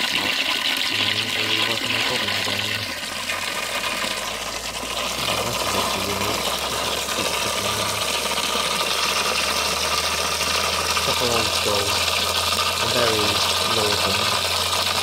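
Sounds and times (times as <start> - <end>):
water gushing into toilet cistern: 0.0 - 15.0
low steady hum: 0.9 - 15.0.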